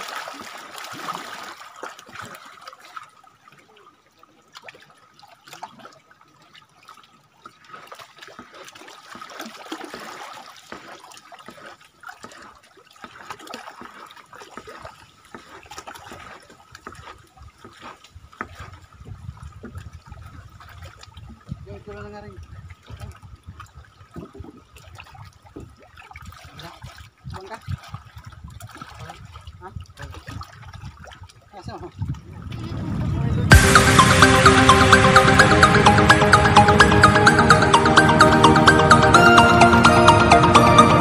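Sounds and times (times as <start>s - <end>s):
water trickling and splashing: 0.0s - 33.6s.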